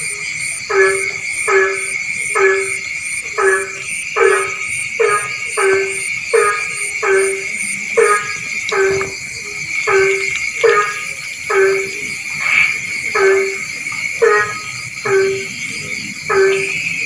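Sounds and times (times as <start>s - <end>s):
frog calling: 0.0s - 17.0s.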